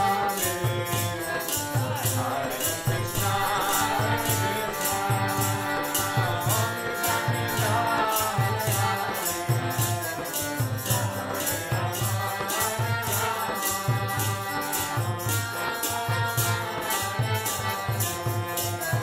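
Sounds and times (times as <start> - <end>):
harmonium chords: 0.0 - 19.0
shaker percussion: 0.0 - 19.0.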